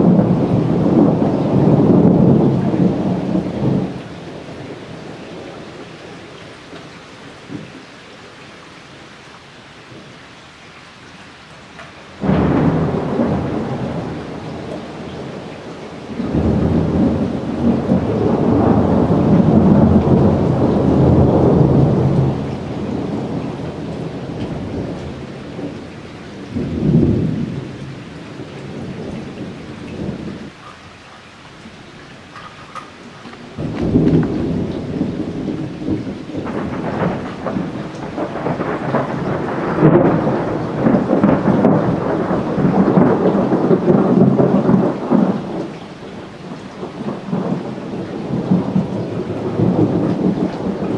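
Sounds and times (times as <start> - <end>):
thunder rumbling: 0.0 - 7.8, 12.2 - 30.7, 31.6 - 50.9.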